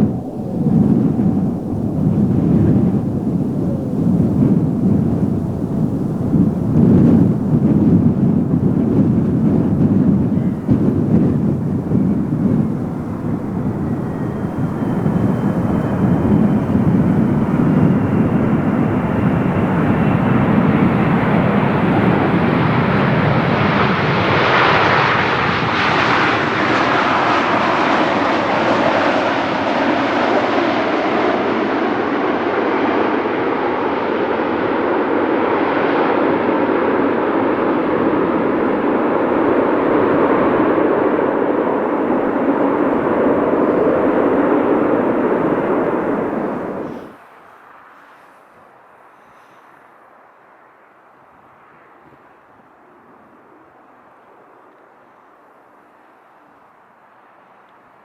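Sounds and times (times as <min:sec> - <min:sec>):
loud jet engine roar: 0:00.0 - 0:48.3.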